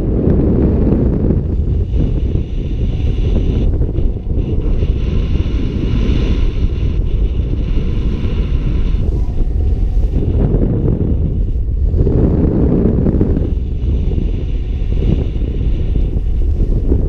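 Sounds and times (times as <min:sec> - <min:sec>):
wind rumbling over microphone: 0:00.0 - 0:17.0.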